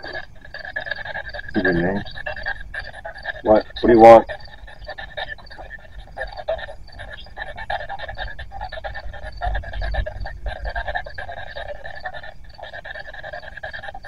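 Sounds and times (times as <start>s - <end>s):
radio scanner choppy static: 0.0s - 14.0s.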